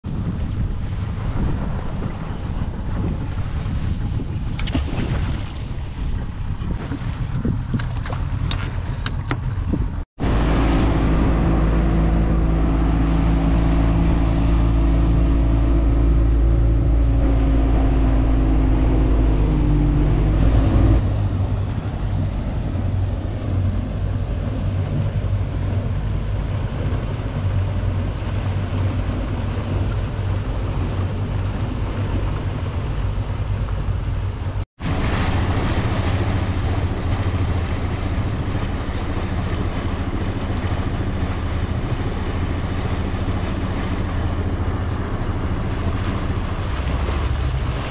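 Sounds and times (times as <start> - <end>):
water rushing past hull: 0.0 - 47.9
wind on microphone: 0.0 - 47.9
boat engine running: 0.1 - 47.9.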